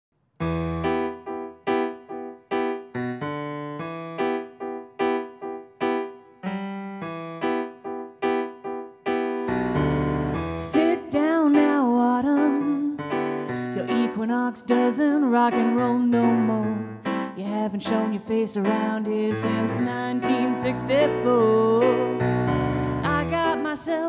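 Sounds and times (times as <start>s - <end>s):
solo piano chords: 0.4s - 24.0s.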